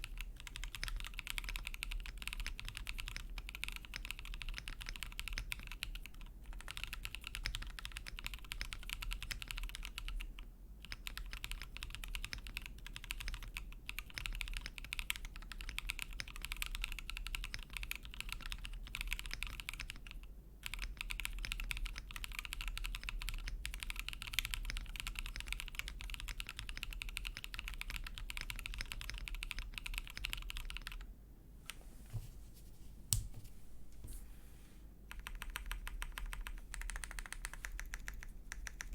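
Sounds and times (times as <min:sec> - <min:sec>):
fast typing on mechanical keyboard: 0:00.0 - 0:31.1, 0:35.1 - 0:38.9.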